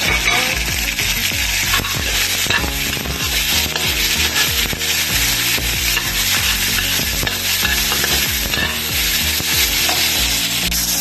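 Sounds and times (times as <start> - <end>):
meat sizzling in a frying pan: 0.0 - 11.0
metal spatula stirring: 0.0 - 11.0.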